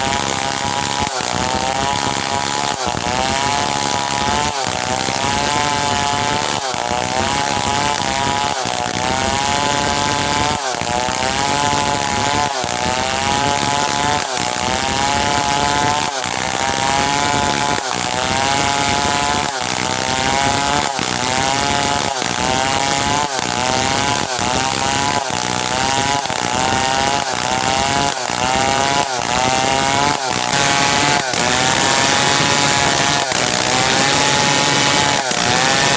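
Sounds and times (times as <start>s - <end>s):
chainsaw cutting timber: 0.0s - 35.9s.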